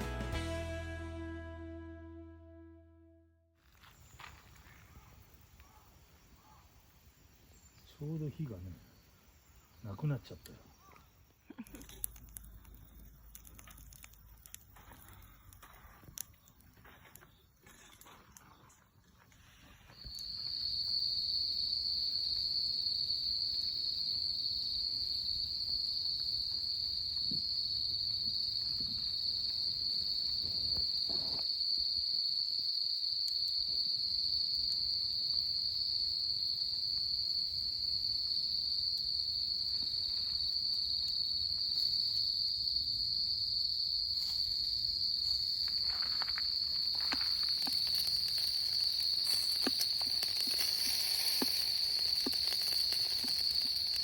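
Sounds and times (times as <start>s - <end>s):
crickets trilling: 3.7s - 54.0s.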